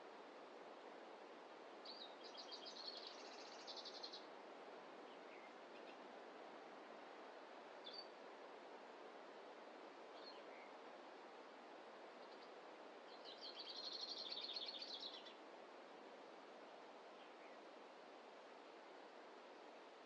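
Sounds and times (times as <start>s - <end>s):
soft forest ambience hiss: 0.0s - 20.0s.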